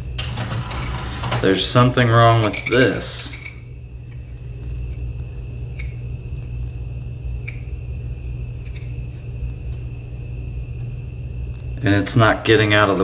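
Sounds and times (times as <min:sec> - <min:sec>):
faint high whine: 0:00.0 - 0:13.0
low electrical hum: 0:00.0 - 0:13.0.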